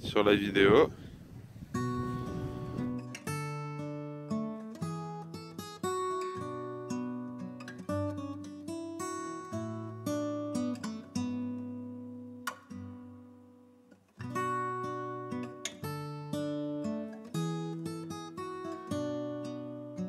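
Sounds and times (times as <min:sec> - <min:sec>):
acoustic guitar music: 0:00.7 - 0:20.0.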